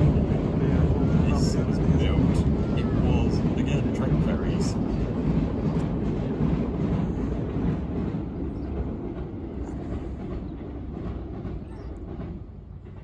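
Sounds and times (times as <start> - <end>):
train rumbling over bridge: 0.0 - 13.0.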